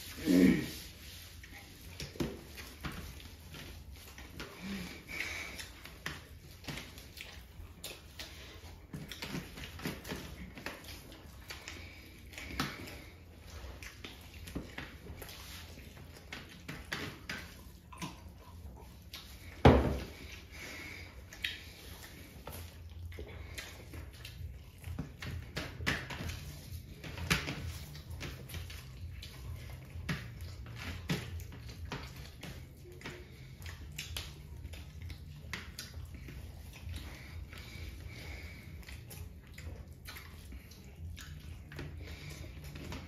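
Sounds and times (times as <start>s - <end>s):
hands squishing rice and curry: 0.0s - 43.0s
chewing and lip smacks: 1.2s - 43.0s.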